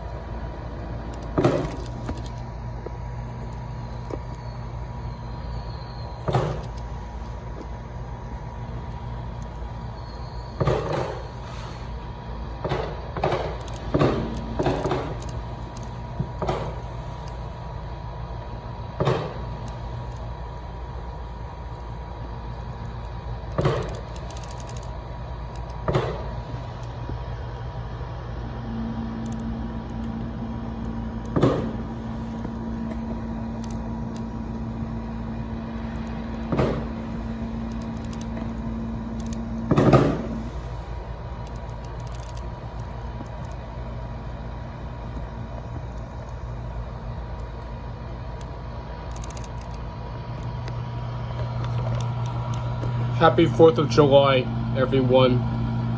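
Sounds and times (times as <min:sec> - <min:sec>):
mechanical hum: 0:00.0 - 0:55.9.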